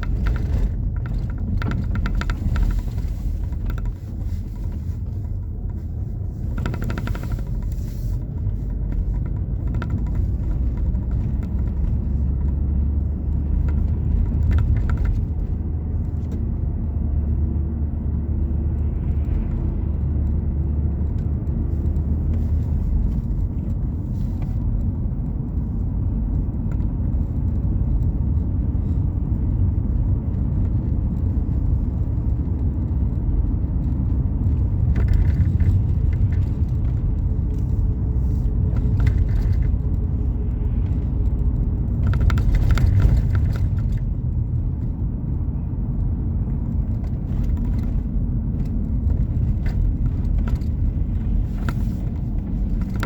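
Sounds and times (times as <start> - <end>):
low rumble: 0.0 - 53.0.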